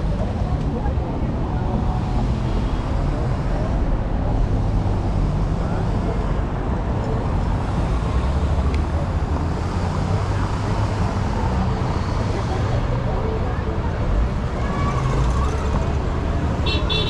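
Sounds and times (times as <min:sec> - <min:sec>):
cars driving slowly past: 0:00.0 - 0:17.0
low rumble of engines and tyres: 0:00.0 - 0:17.0.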